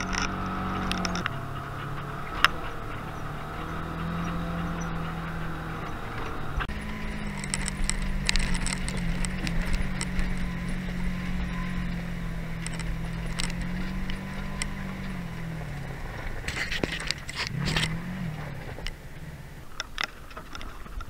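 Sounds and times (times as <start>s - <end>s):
rattling and clattering on gravel: 0.0s - 21.0s
vehicle engine running: 0.0s - 21.0s.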